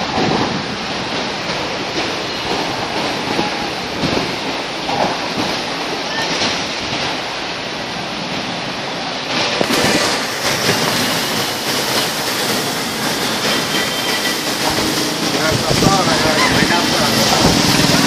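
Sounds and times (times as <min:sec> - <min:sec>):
heavy rain: 0:00.0 - 0:18.0
strong gusting wind: 0:00.0 - 0:18.0.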